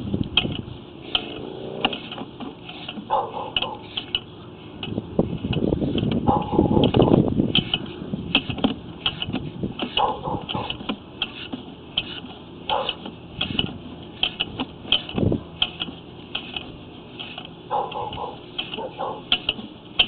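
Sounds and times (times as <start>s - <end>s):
push-rod and reel clicking: 0.2s - 20.0s.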